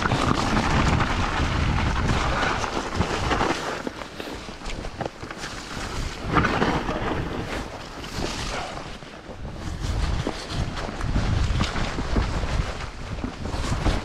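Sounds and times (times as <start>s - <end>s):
bike tyres rolling on trail: 0.0s - 14.0s
wind buffeting microphone: 0.0s - 14.0s.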